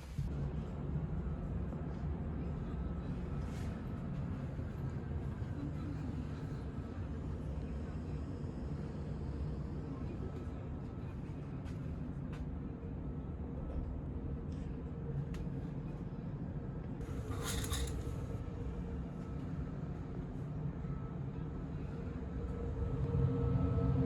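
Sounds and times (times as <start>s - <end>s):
low machinery and ventilation hum: 0.0s - 24.0s.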